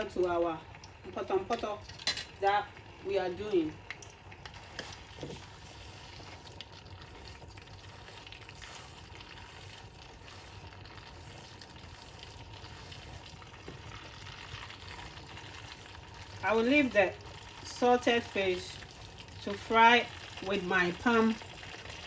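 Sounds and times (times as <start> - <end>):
fish frying in oil: 0.0 - 22.0.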